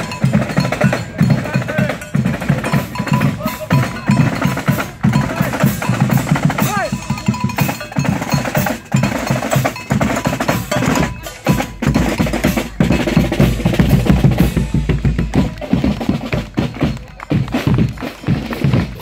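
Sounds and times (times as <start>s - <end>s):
bass drum: 0.0s - 19.0s
snare drums marching cadence: 0.0s - 19.0s.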